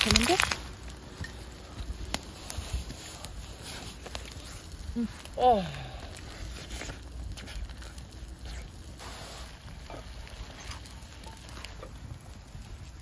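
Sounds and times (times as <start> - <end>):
campfire crackling and popping: 0.0 - 13.0
egg sizzling in pan: 0.0 - 13.0.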